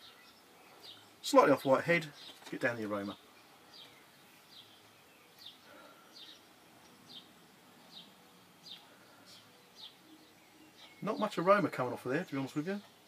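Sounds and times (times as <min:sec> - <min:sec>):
small bird chirping: 0:00.0 - 0:01.3, 0:02.0 - 0:13.0.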